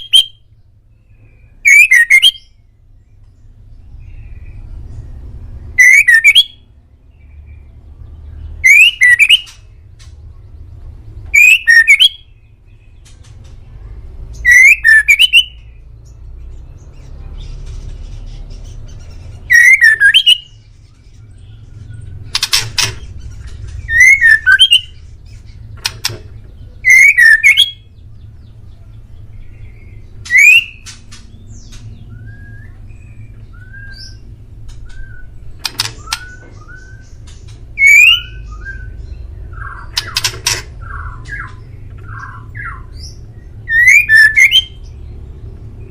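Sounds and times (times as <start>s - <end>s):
bird singing warbling phrases: 0.0s - 45.9s
steady low rumble: 2.4s - 5.8s, 6.4s - 8.7s, 9.4s - 14.9s, 15.5s - 43.9s.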